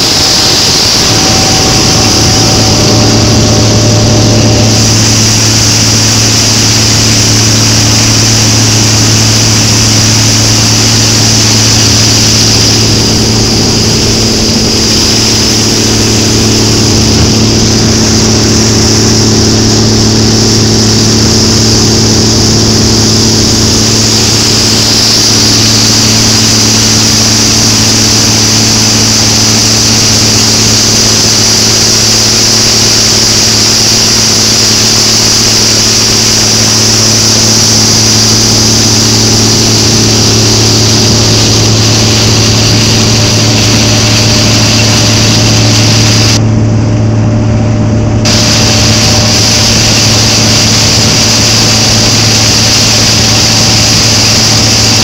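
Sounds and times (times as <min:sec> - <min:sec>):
hiss: 0:00.0 - 0:46.4, 0:48.3 - 0:55.0
combine harvester drone: 0:00.0 - 0:55.0.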